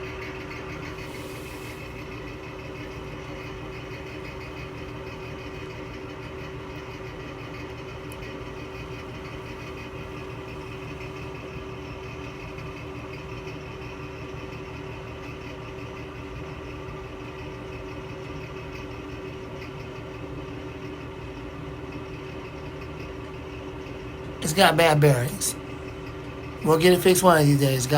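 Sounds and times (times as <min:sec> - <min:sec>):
exhaust fan droning: 0:00.0 - 0:27.9.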